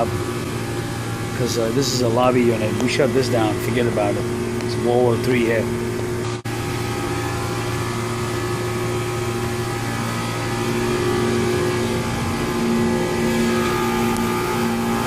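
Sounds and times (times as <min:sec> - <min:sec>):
higher compressor tone: 0:00.0 - 0:15.0
refrigeration compressor humming: 0:00.0 - 0:15.0.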